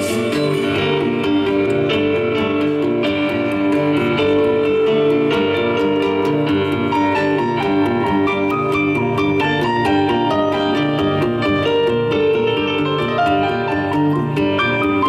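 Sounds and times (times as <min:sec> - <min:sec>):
acoustic guitar plucked: 0:00.0 - 0:15.0
keyboard piano chords: 0:00.0 - 0:15.0.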